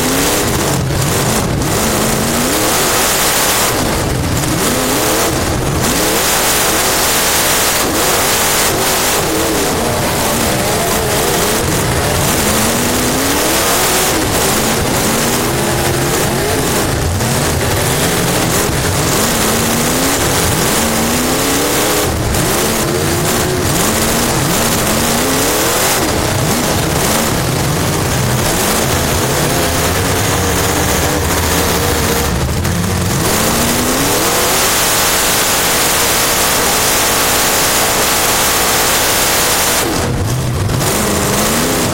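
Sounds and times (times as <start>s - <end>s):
race car engine revving: 0.0s - 41.9s
wind rush and chassis noise: 0.0s - 41.9s.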